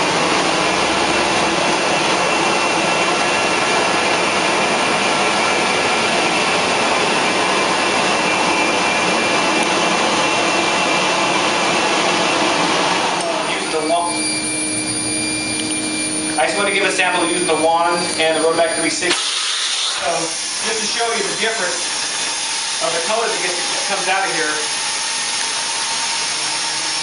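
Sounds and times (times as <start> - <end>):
carpet extraction machine suction: 0.0 - 27.0.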